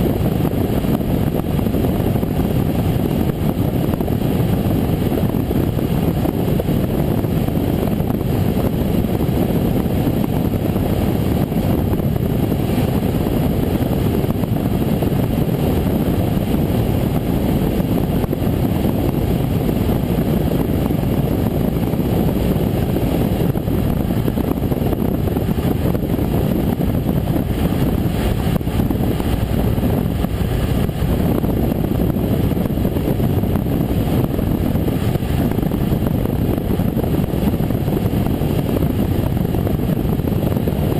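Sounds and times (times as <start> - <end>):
airplane engine and propeller: 0.0 - 40.9.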